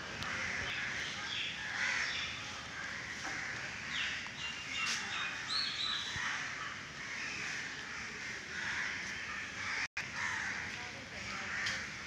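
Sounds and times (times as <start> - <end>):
crows cawing: 0.2 - 4.2, 6.1 - 12.0.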